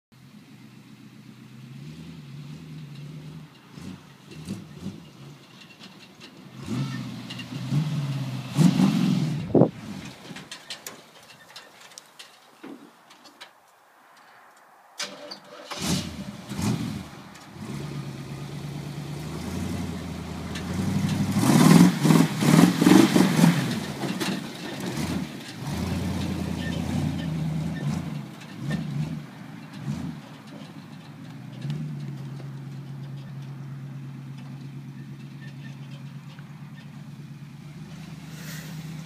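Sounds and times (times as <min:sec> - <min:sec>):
pickup engine starting and revving: 0:00.2 - 0:11.9, 0:15.0 - 0:39.0.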